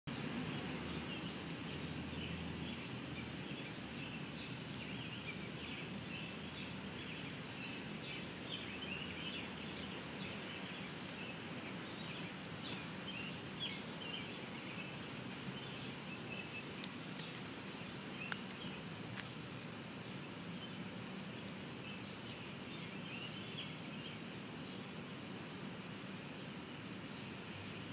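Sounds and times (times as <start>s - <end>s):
steady background hiss: 0.1s - 27.9s.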